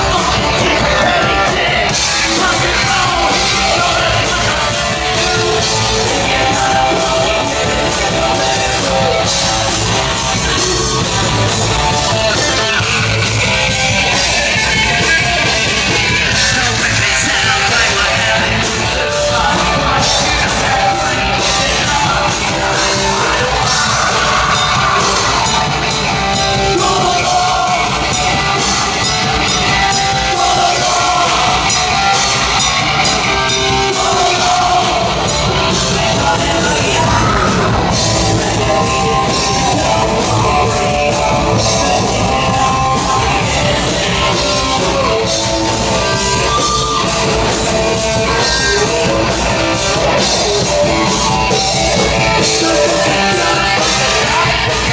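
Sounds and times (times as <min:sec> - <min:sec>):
bass guitar: 0:00.0 - 0:54.9
distorted electric guitars: 0:00.0 - 0:54.9
pounding drums: 0:00.0 - 0:54.9.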